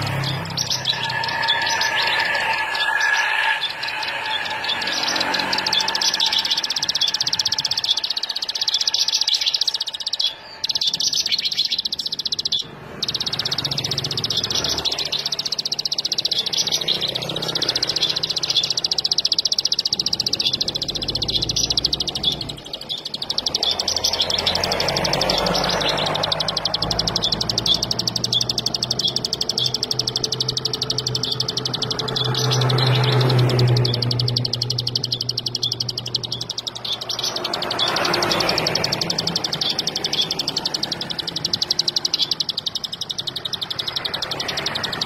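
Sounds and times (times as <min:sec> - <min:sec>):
bird chattering trill: 0:00.0 - 0:45.0.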